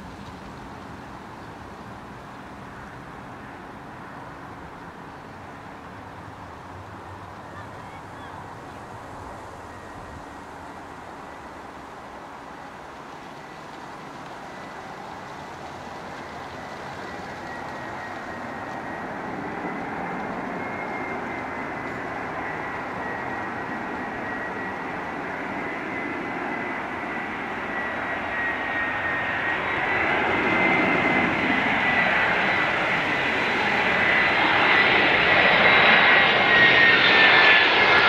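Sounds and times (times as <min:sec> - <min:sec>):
jet engine rumble with fan whine: 0:00.0 - 0:38.0.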